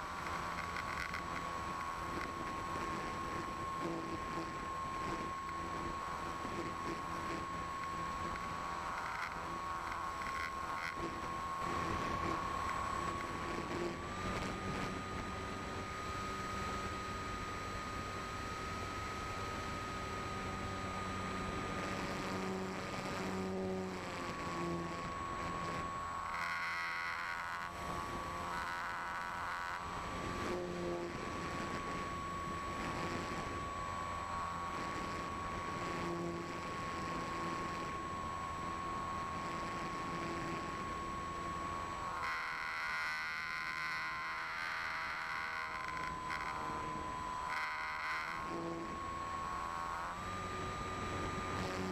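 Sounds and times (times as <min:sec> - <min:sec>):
electric motor and propeller whine: 0:00.0 - 0:51.9.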